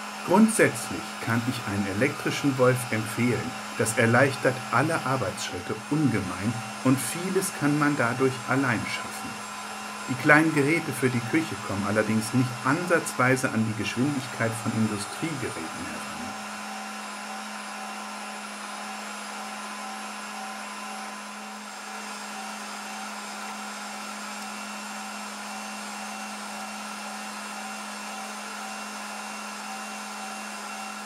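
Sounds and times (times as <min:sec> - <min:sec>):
electric meat grinder humming: 0:00.0 - 0:31.0.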